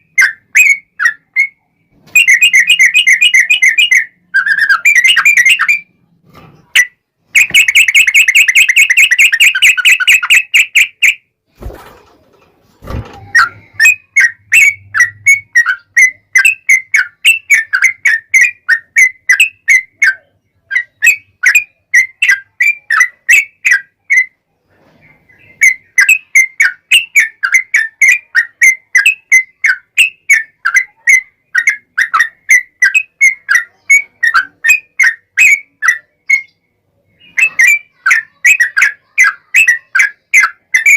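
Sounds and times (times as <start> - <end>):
bird singing trills and chirps: 0.0 - 11.2, 13.1 - 40.9.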